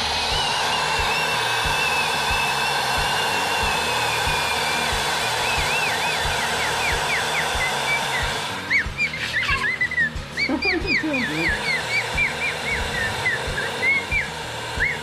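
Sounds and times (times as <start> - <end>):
pressure cooker steam hiss: 0.0 - 15.0
warbling whistle tone: 0.0 - 15.0.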